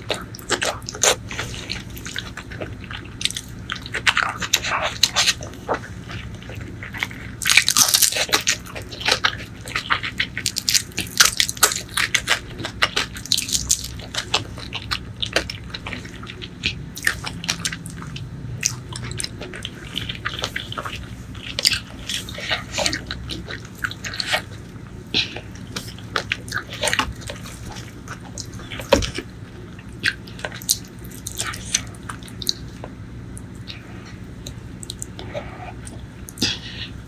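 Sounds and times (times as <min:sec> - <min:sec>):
wet chewing and mouth smacks: 0:00.0 - 0:36.6.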